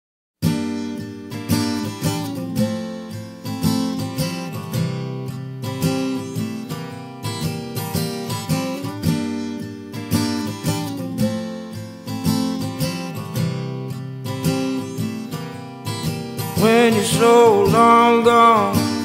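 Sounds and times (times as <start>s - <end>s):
acoustic guitar strumming chords: 0.4s - 19.0s.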